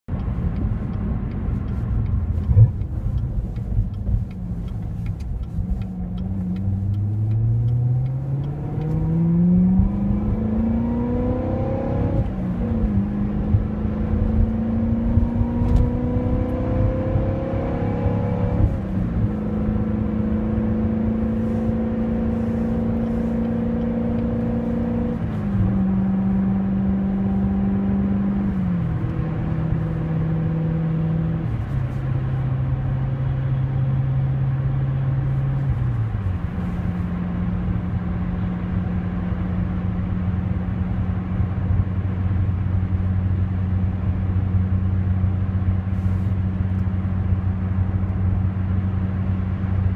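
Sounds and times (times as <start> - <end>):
car engine accelerating and shifting: 0.1 - 49.9.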